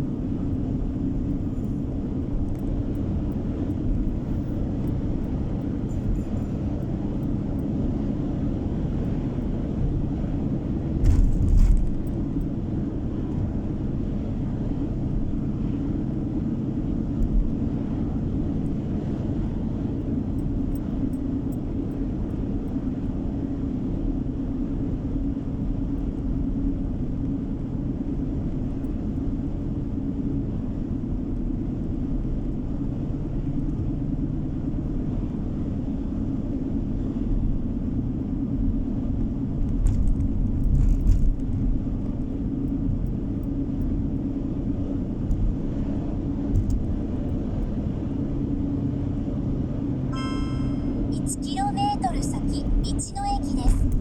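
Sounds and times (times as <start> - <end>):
car interior road noise: 0.0 - 54.0.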